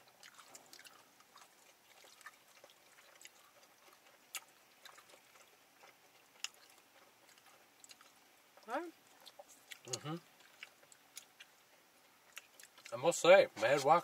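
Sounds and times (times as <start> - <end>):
quiet chewing: 0.0 - 13.0.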